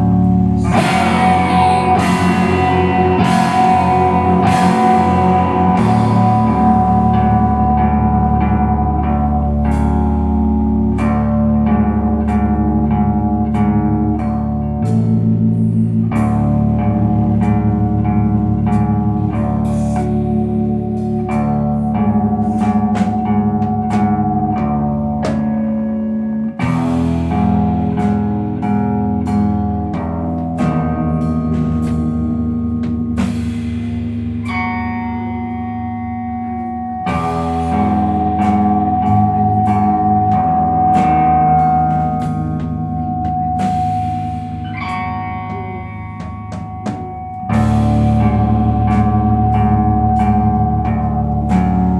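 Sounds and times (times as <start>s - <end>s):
rock band playing live: 0.0s - 51.9s.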